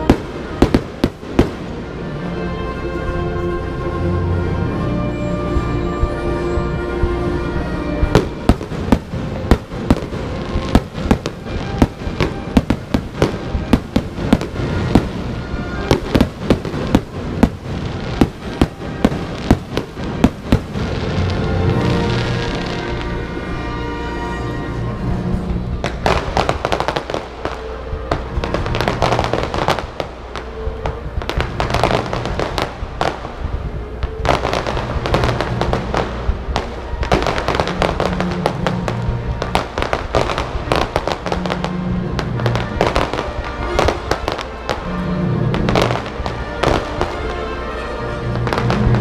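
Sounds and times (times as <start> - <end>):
fireworks bursting: 0.0 - 2.4, 4.4 - 23.8, 24.4 - 49.0
music playing: 0.0 - 49.0.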